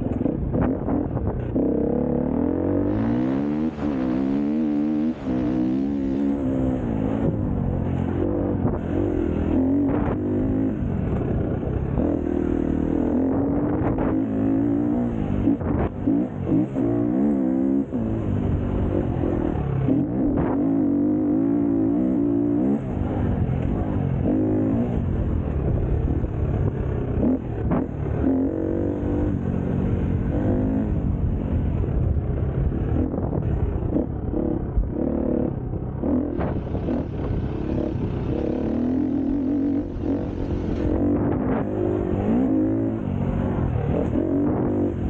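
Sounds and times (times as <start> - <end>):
engine revving: 0.0 - 45.0.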